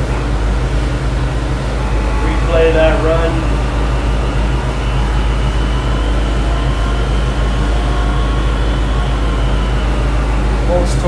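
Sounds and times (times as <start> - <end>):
engine idling low rumble: 0.0 - 11.0.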